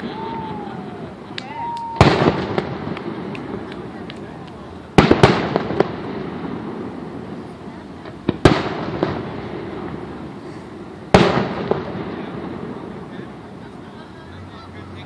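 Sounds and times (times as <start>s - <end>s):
fireworks booming: 0.0s - 15.0s
small fireworks pops: 0.0s - 15.0s.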